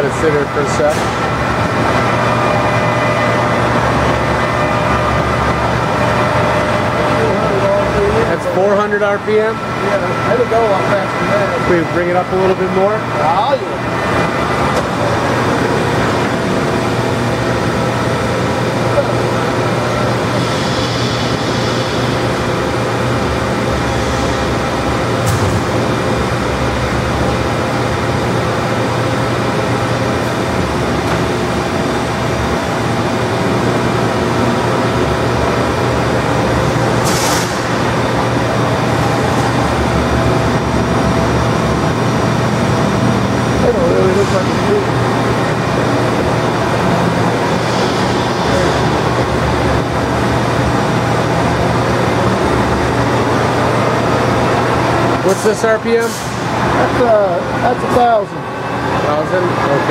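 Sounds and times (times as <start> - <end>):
lathe gear whine: 0.0 - 59.9.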